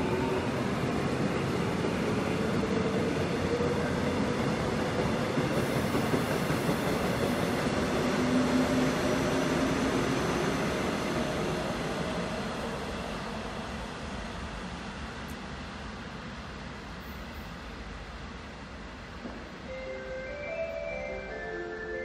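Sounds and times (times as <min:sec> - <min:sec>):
train wheels rumbling on rail: 0:00.0 - 0:19.7.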